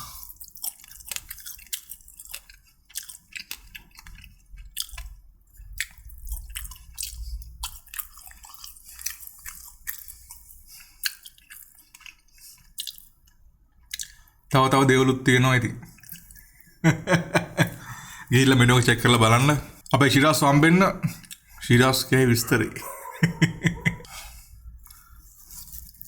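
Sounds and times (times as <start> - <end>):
person chewing food: 0.0 - 14.5, 15.8 - 18.3, 21.0 - 21.6, 22.5 - 26.0.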